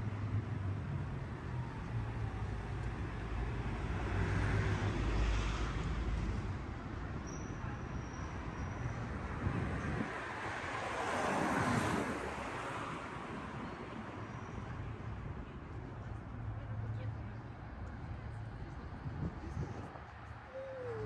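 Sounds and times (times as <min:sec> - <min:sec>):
vehicles passing with engine rumble: 0:00.0 - 0:21.0.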